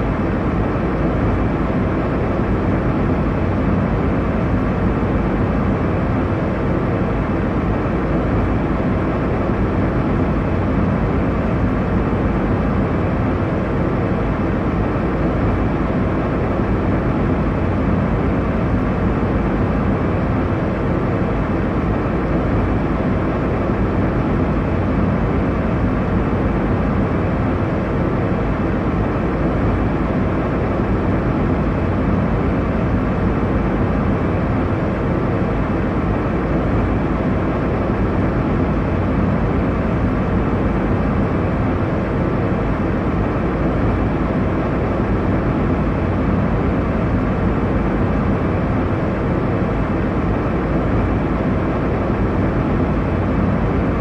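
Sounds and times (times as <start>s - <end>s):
airliner cabin rumble and hiss: 0.0s - 54.0s.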